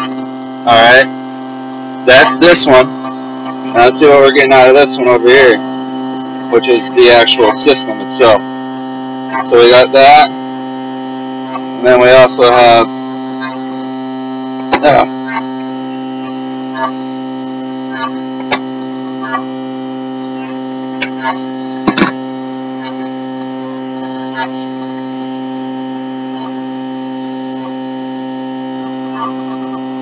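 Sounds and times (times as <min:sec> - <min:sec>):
electrical hum from fan motor: 0:00.0 - 0:30.0.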